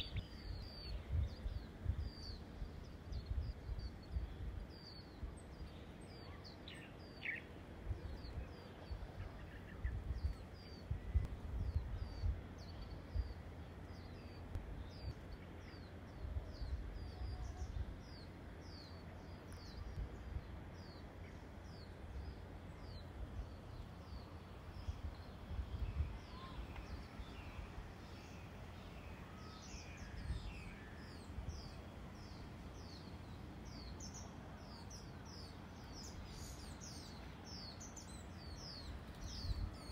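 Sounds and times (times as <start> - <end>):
wind buffeting microphone: 0.0 - 18.9, 21.7 - 39.9.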